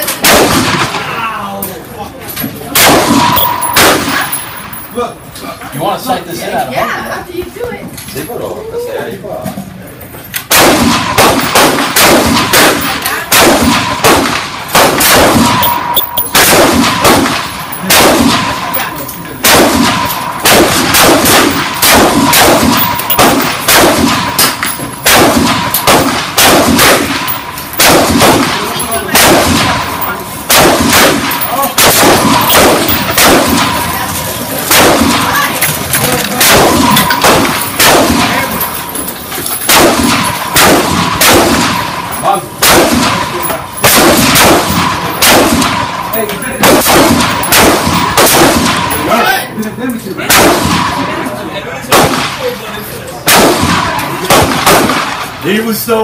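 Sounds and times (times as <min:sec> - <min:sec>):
gunshots with ringing echo: 0:00.0 - 0:01.3, 0:02.7 - 0:05.0, 0:10.4 - 0:49.4, 0:50.2 - 0:52.6, 0:53.2 - 0:55.3.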